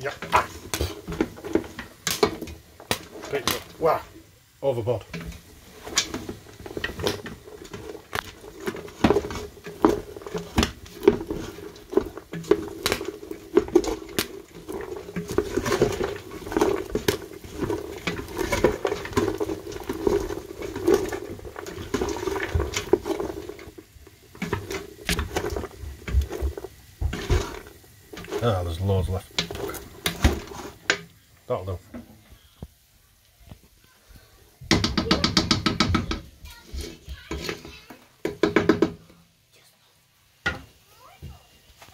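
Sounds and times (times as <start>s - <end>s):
spoon knocking and scraping a pan: 0.0s - 4.2s, 5.0s - 31.1s, 34.6s - 39.2s, 40.4s - 40.8s
popcorn rustling: 0.0s - 39.9s.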